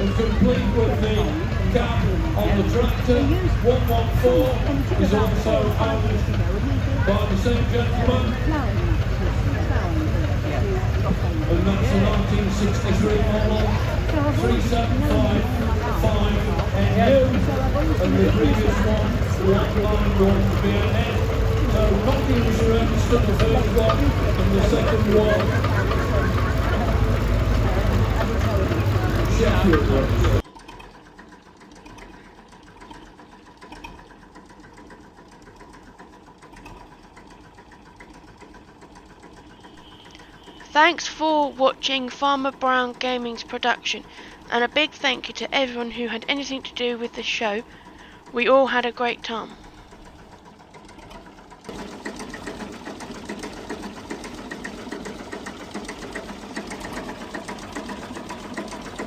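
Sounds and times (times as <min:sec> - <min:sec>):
tractor engine ticking: 0:00.0 - 0:59.0.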